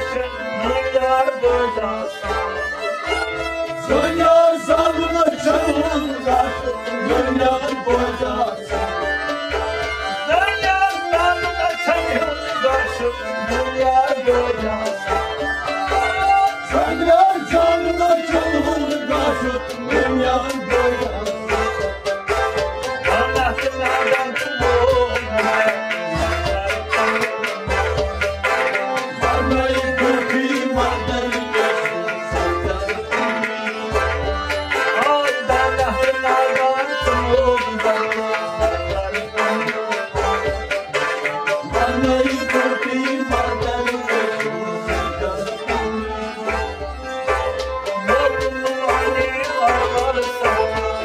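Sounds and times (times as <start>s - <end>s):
harmonium chords: 0.0s - 51.0s
plucked and bowed string melody: 0.0s - 51.0s
clay pot drum beat: 2.3s - 51.0s.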